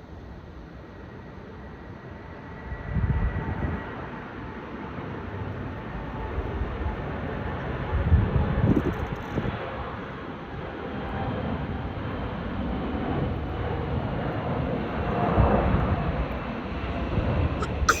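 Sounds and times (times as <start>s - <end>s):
jet engines rumbling with whine: 0.0s - 17.9s.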